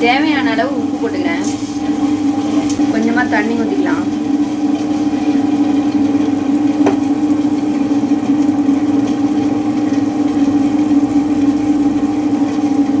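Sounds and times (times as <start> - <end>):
wet grinder motor humming: 0.0 - 13.0.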